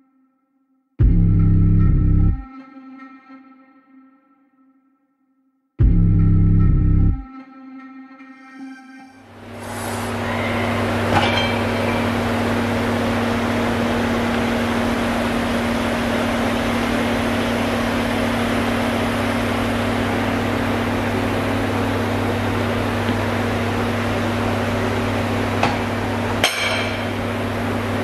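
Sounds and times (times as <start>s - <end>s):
hall background drone: 1.0s - 4.3s, 5.8s - 28.0s.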